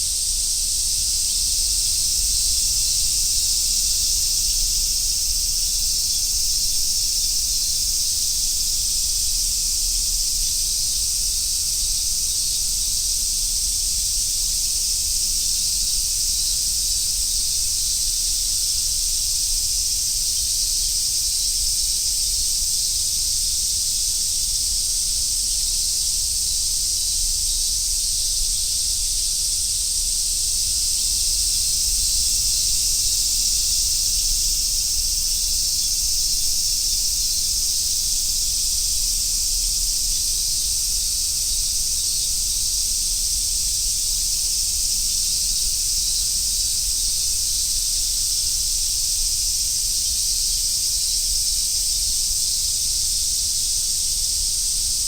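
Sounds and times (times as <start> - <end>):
cicadas chorusing: 0.0 - 55.0.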